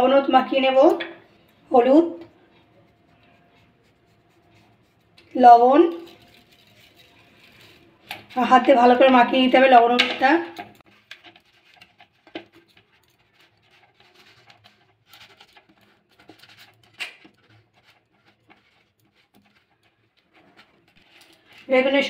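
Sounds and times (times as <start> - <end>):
hands rubbing food: 2.3 - 22.0.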